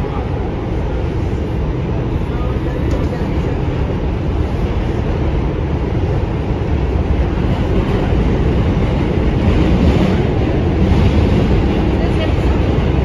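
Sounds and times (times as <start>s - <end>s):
subway wheels rumbling on rails: 0.0s - 13.0s.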